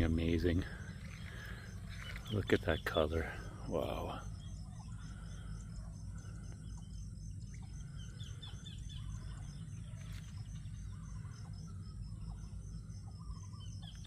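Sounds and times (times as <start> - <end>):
birds chirping: 0.0 - 14.0
insects droning: 0.0 - 14.0
pulsing insect trill: 0.0 - 14.0
steady low rumble: 0.0 - 14.0.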